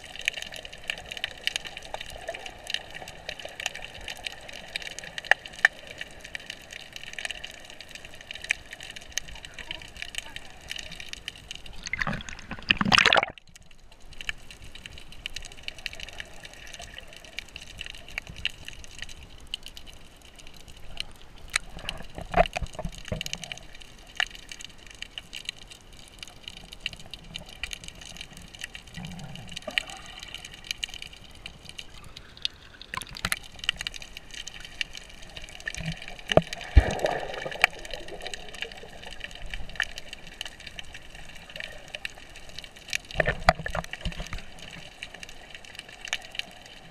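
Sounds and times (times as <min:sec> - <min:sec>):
water sloshing and bubbling: 0:00.0 - 0:46.9.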